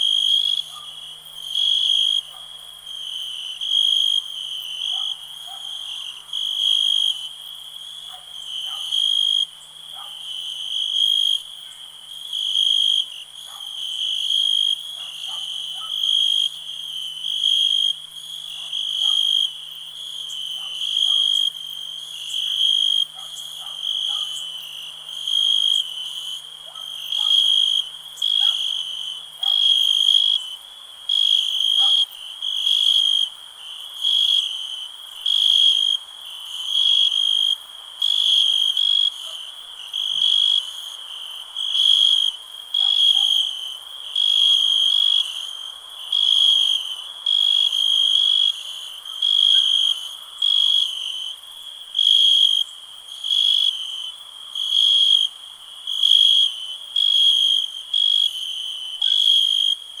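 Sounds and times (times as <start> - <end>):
cricket chirping trills: 0.0 - 60.0
faint night insects: 0.0 - 60.0.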